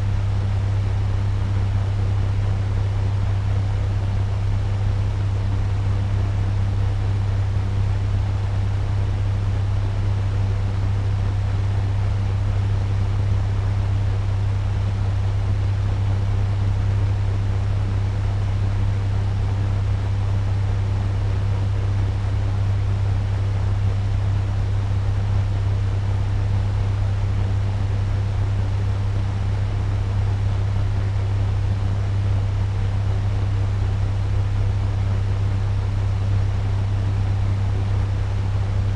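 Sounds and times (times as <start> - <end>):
fan air rushing with low hum: 0.0 - 38.9.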